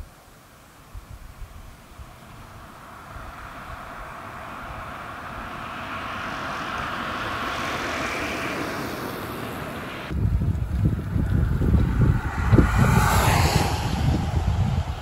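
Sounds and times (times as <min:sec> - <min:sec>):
wind buffeting microphone: 0:00.9 - 0:15.0
vehicle passing by: 0:02.0 - 0:15.0.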